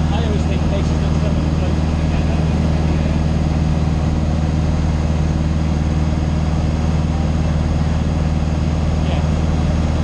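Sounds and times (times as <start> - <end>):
light aircraft engine drone: 0.0 - 10.0.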